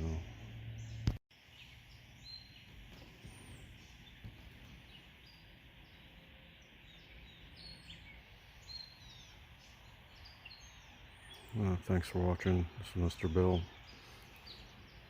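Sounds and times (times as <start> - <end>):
bird chirps: 0.0 - 15.0
faint outdoor hiss: 0.0 - 15.0.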